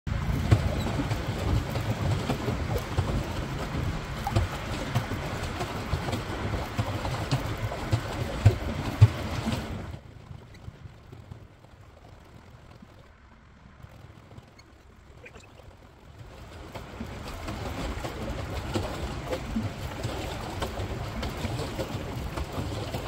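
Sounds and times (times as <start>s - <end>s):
water lapping against hull: 0.1s - 23.0s
wind buffeting microphone: 0.1s - 23.0s.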